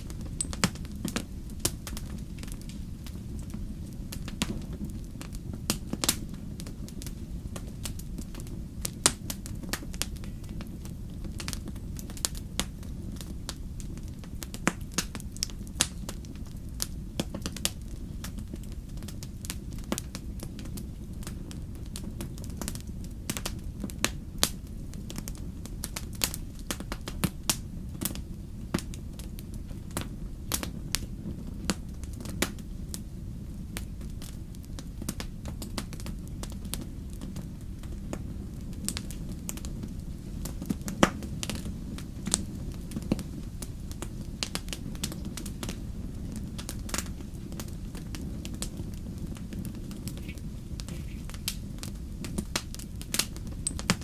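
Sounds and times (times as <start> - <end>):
campfire crackling and popping: 0.0 - 54.0
low rumble of flames: 0.0 - 54.0.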